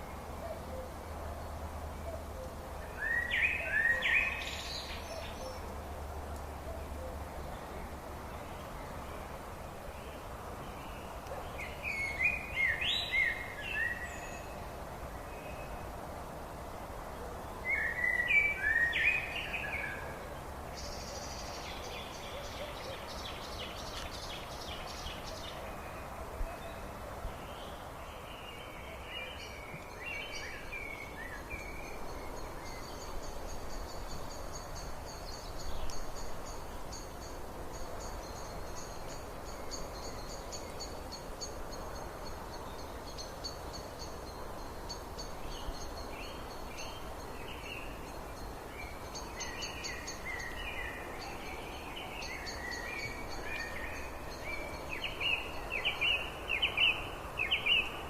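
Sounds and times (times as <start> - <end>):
songbird singing: 0.0 - 58.0
steady background noise: 0.0 - 58.0.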